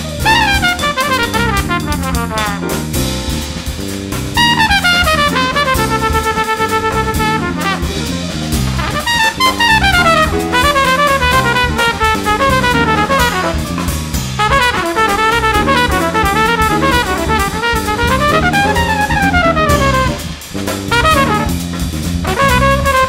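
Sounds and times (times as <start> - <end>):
drum kit: 0.0 - 23.0
jazz trumpet soloing: 0.0 - 23.0
walking electric bass line: 0.0 - 23.0.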